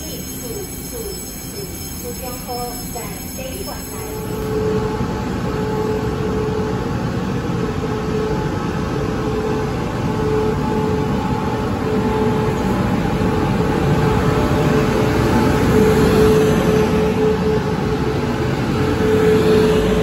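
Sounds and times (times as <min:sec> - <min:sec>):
electric train hum: 0:00.0 - 0:20.0.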